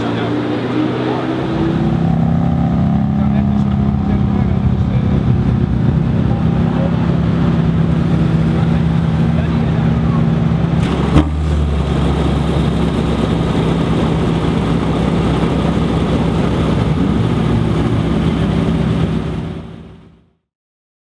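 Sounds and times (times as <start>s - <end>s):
car engine idling: 1.8s - 20.2s.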